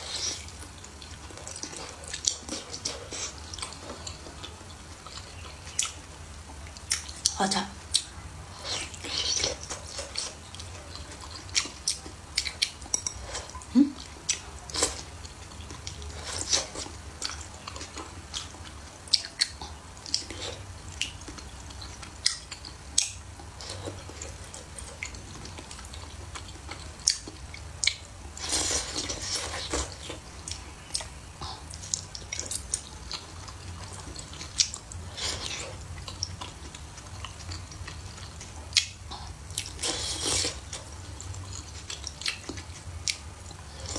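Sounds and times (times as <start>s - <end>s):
chewing and slurping: 0.0s - 43.9s.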